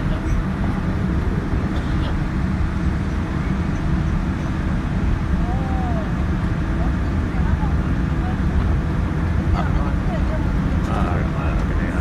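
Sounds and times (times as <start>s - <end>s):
airliner cabin rumble while taxiing: 0.0s - 12.0s.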